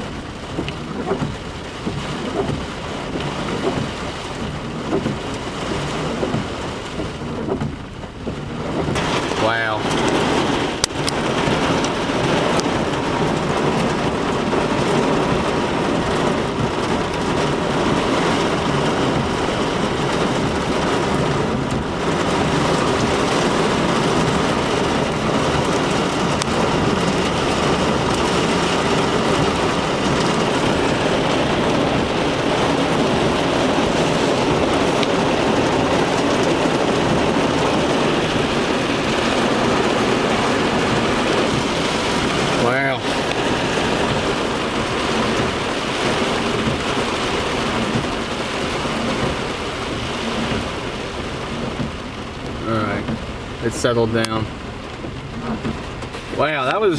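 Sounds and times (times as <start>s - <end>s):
rain pouring down: 0.0s - 56.9s
raindrop ticks: 0.0s - 56.9s
wind: 0.0s - 56.9s.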